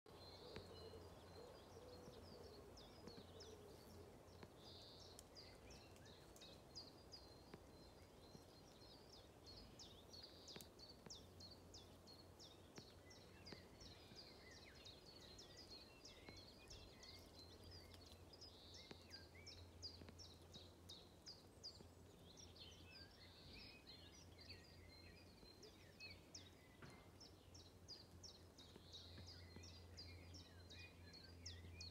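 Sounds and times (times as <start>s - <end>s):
distant birds chirping: 0.1s - 31.9s.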